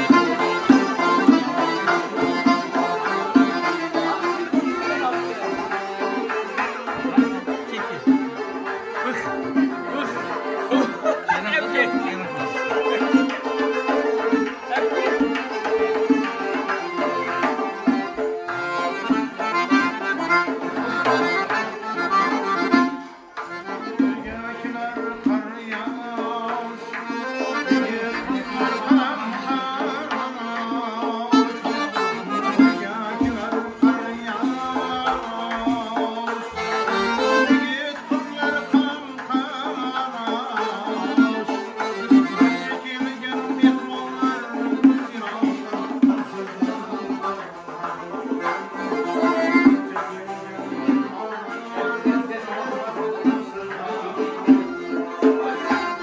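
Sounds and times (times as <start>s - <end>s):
accordion: 0.0s - 56.0s.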